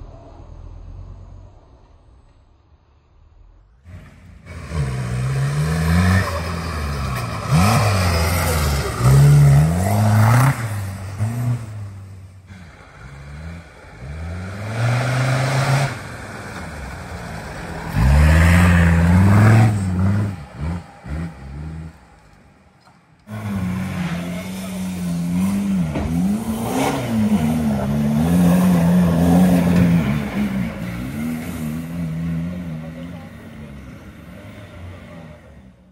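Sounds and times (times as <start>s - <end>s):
off-road engine revving: 3.8s - 35.9s.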